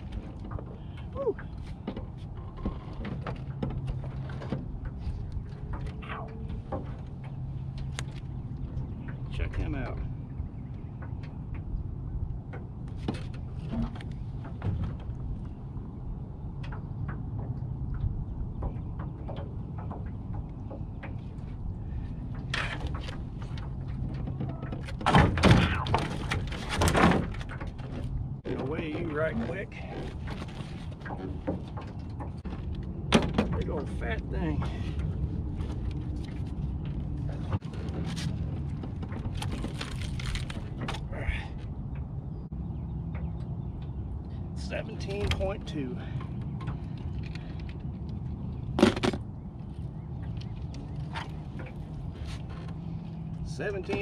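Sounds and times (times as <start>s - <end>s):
knocks and thuds in boat: 0.0s - 47.6s, 48.3s - 54.0s.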